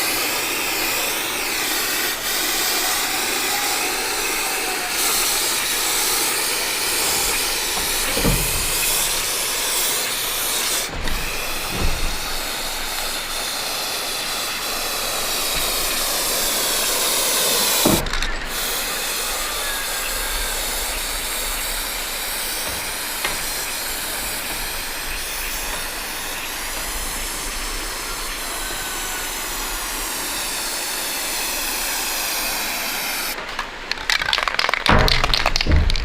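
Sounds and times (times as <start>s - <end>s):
arc welding hiss: 0.0s - 33.8s
sharp knocks: 1.6s - 29.4s, 34.4s - 36.0s.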